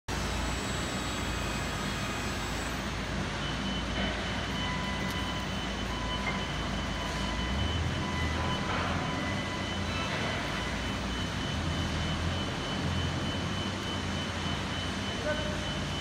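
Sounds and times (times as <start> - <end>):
forklift engine running: 0.1 - 16.0
steady whine: 0.1 - 16.0.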